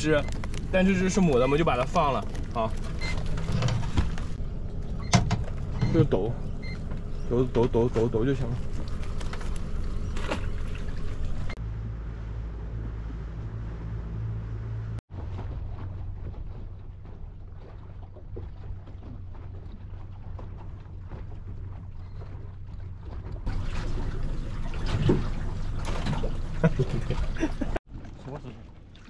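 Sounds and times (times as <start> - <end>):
boat motor humming: 0.0 - 29.0
water noise: 0.0 - 29.0
wind: 0.0 - 29.0.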